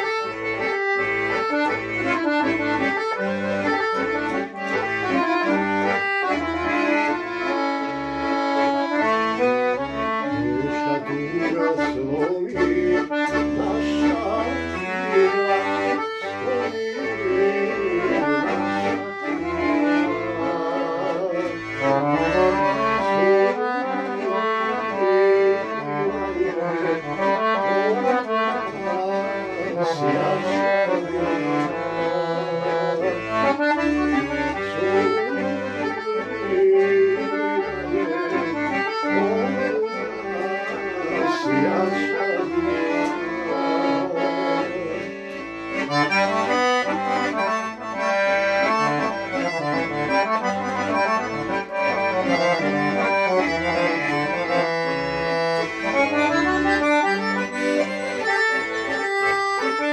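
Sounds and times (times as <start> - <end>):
accordion melody: 0.0 - 59.9.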